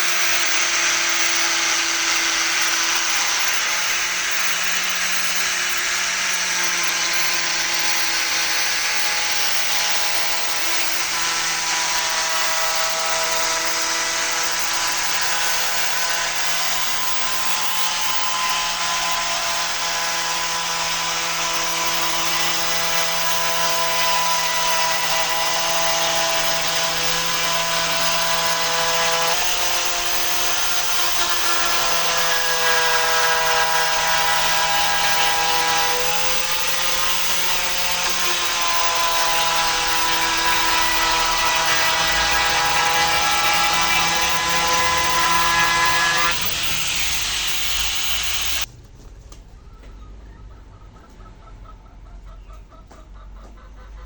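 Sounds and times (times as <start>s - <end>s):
grinder motor whining: 0.0s - 48.7s.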